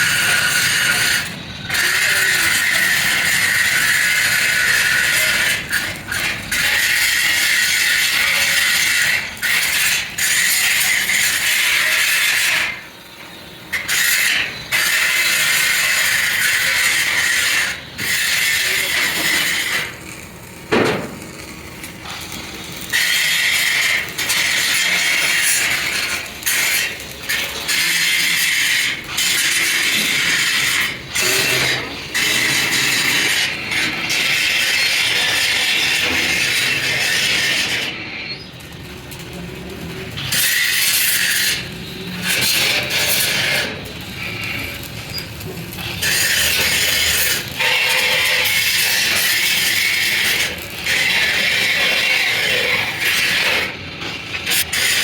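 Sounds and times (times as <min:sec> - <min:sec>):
harsh metalworking noise: 0:00.0 - 0:55.0.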